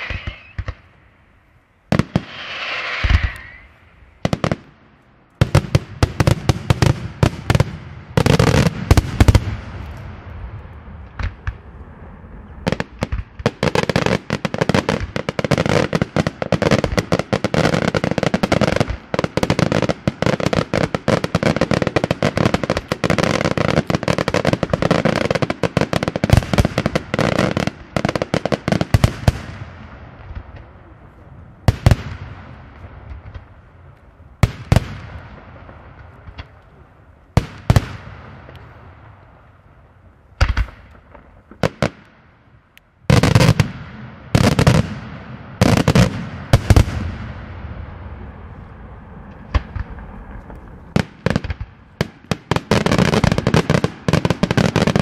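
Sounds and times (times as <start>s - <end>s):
fireworks bangs: 0.0s - 1.2s, 1.9s - 42.4s, 43.1s - 55.0s.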